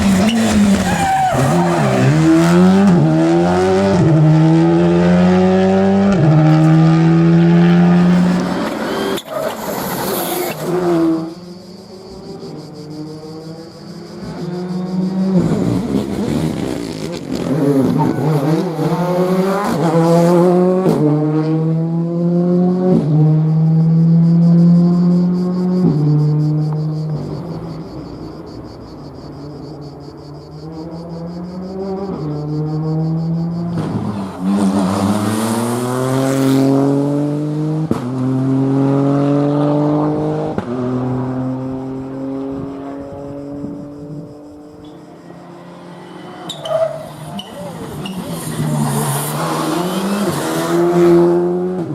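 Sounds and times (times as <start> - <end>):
car engine accelerating hard: 0.0 - 28.7, 30.4 - 51.9.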